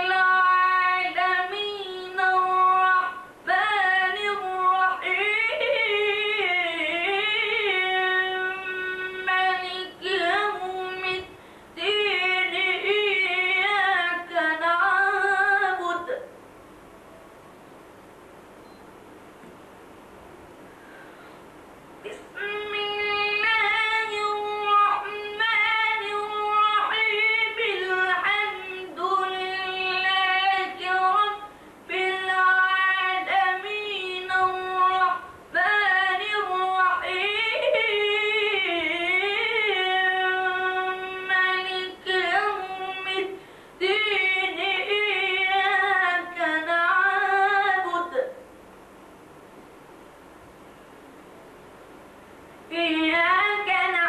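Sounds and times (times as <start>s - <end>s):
boy chanting melodically: 0.0s - 16.3s, 22.0s - 48.4s, 52.7s - 54.0s.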